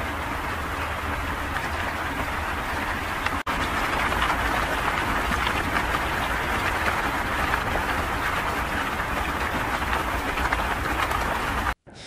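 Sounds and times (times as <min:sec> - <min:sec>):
floodwater rushing: 0:00.0 - 0:11.8.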